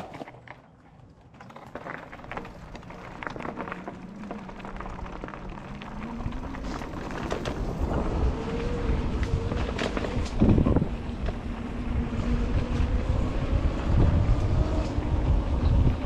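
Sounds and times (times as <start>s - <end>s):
bike rattling on dirt trail: 1.3s - 16.0s
wind rumble on microphone: 2.3s - 16.0s.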